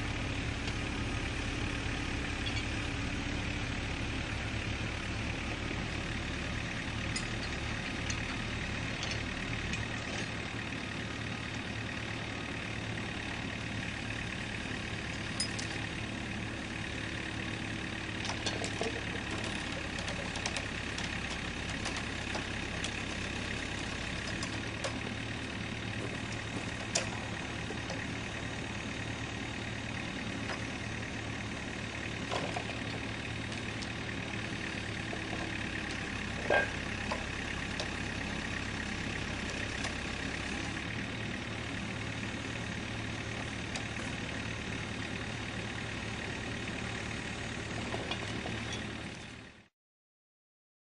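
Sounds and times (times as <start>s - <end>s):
excavator diesel engine running: 0.0s - 49.7s.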